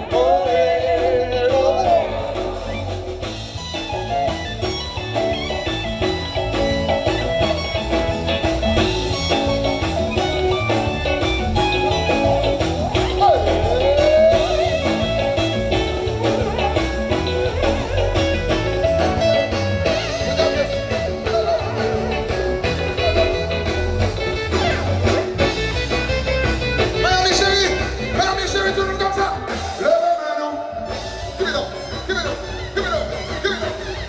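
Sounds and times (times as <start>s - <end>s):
melodic guitar lines: 0.0s - 29.9s
heavy bass: 0.0s - 34.0s
live band music: 0.0s - 34.0s.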